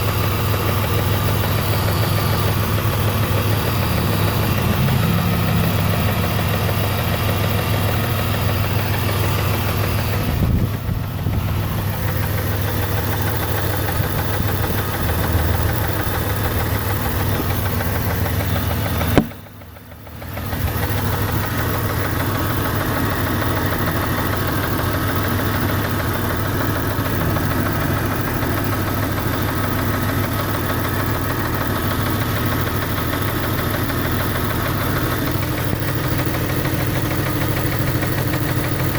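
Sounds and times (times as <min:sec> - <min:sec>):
engine idling with ticking: 0:00.0 - 0:38.9.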